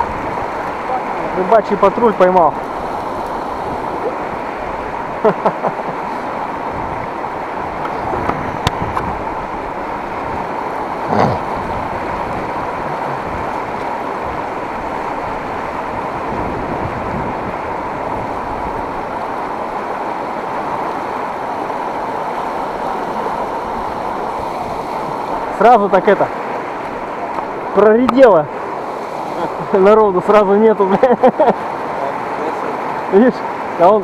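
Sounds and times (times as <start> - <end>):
fast-flowing river rushing: 0.0 - 34.0.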